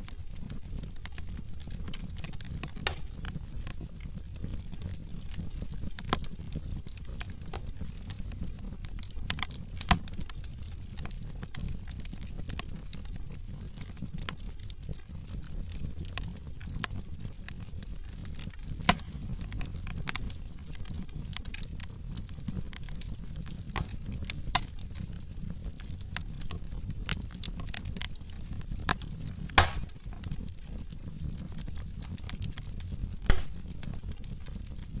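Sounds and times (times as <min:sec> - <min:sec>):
crackles and pops of burning logs: 0:00.0 - 0:35.0
wood fire burning: 0:00.0 - 0:35.0.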